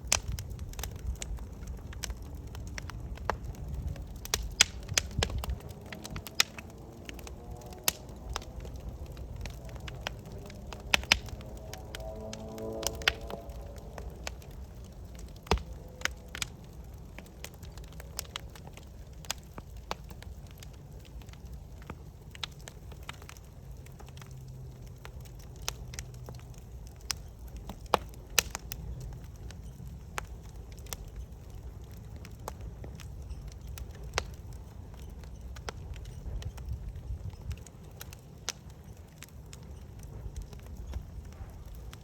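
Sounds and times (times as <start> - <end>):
steady low rumble: 0.0 - 38.4
campfire crackling: 0.0 - 42.0
sharp pops of fire: 0.0 - 42.0.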